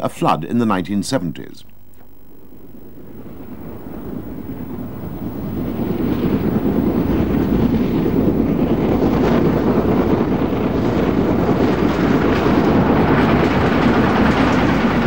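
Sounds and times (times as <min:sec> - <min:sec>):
steam locomotive rumbling: 0:02.4 - 0:15.0.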